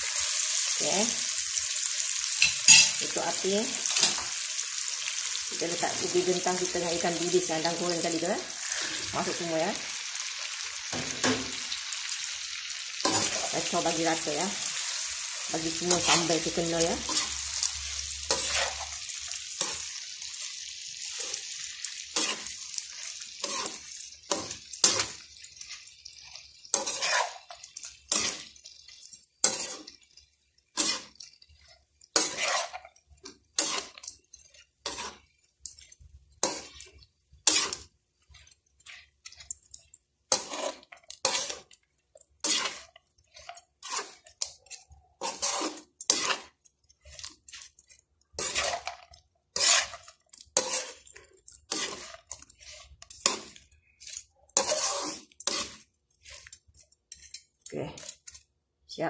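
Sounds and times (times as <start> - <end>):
spatula scraping a wok: 0.0 - 58.5
oil sizzling: 0.0 - 58.8.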